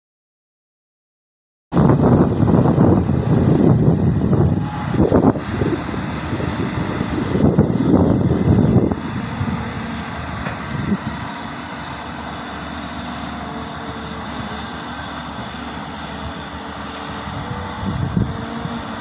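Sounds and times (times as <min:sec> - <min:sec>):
excavator diesel engine running: 0:01.9 - 0:19.0.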